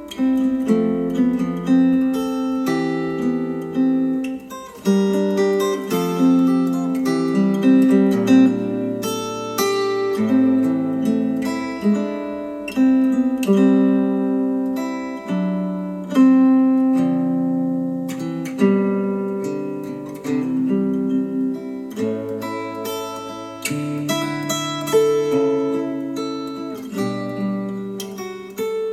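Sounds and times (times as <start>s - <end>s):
acoustic guitar music through speakers: 0.0s - 28.9s.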